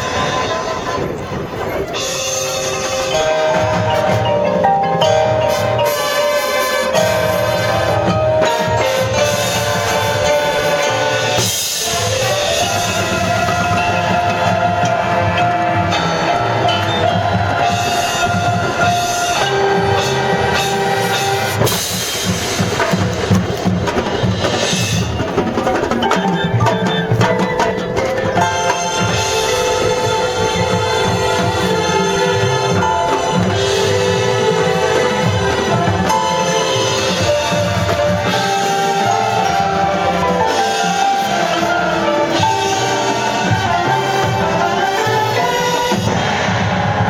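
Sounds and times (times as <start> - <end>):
held horn notes: 0.0 - 47.0
marching drums and percussion: 0.0 - 47.0
marimba: 0.0 - 47.0.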